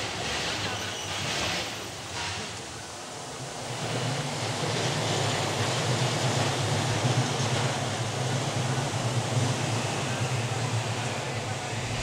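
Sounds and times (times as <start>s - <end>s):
city street hiss: 0.0s - 12.0s
low traffic rumble: 2.0s - 12.0s.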